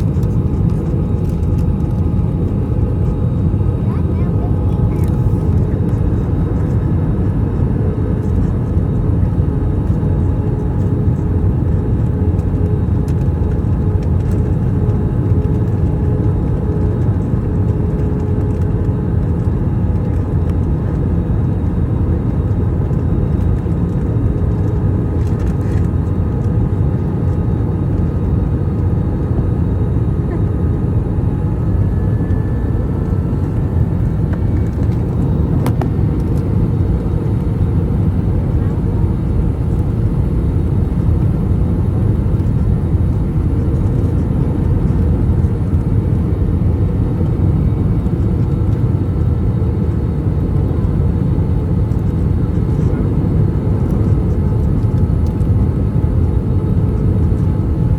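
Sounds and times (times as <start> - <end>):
airplane cabin rumble: 0.0 - 57.9.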